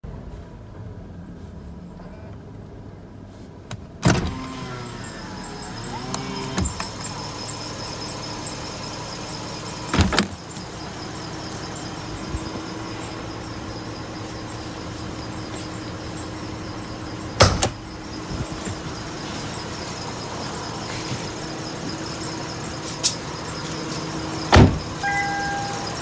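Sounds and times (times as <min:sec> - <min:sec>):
car engine idling: 0:04.0 - 0:26.0
high-pitched ticking and squeal: 0:05.0 - 0:26.0.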